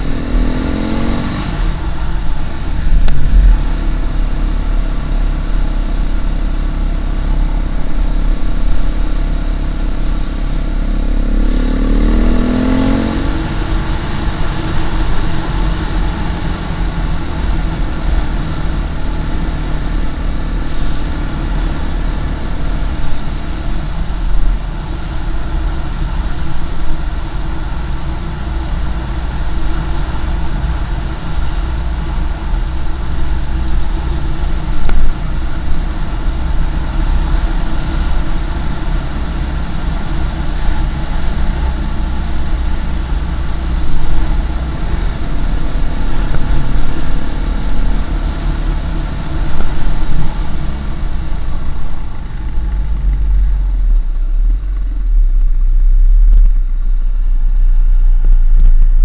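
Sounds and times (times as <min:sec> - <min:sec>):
wind rumble on microphone: 0:00.0 - 0:05.2, 0:12.2 - 0:59.0
motorcycle engine running: 0:00.0 - 0:59.0.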